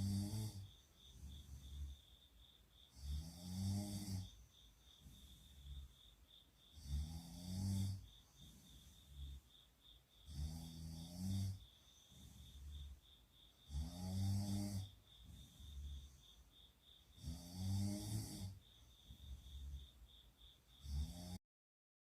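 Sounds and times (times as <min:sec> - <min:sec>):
person snoring: 0:00.0 - 0:02.0, 0:02.9 - 0:06.0, 0:06.7 - 0:09.5, 0:10.2 - 0:13.0, 0:13.6 - 0:19.9, 0:20.8 - 0:21.4
quiet breaths: 0:00.0 - 0:21.4.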